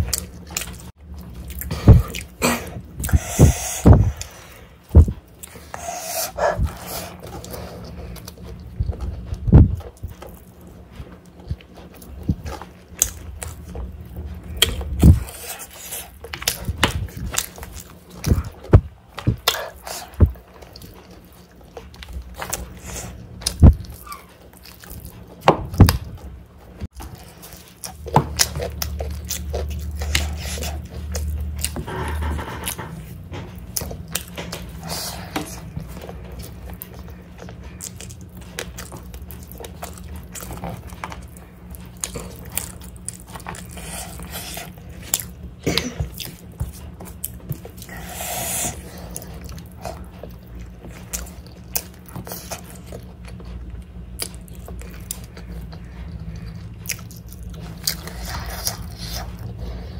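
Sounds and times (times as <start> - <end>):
chewing with wet mouth clicks: 0.0 - 26.3, 26.9 - 31.8, 33.5 - 59.9.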